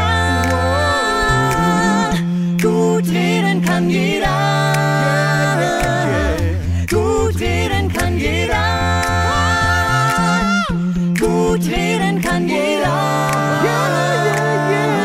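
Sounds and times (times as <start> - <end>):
low sung bass line: 0.0 - 15.0
voices singing held chords: 0.0 - 15.0.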